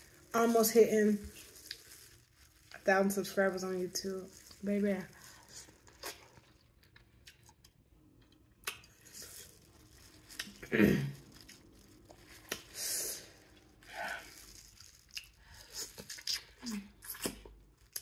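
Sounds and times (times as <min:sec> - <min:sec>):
plastic gloves crinkling: 0:00.0 - 0:07.7, 0:08.6 - 0:18.0
wet squishing: 0:00.0 - 0:07.8, 0:08.6 - 0:18.0.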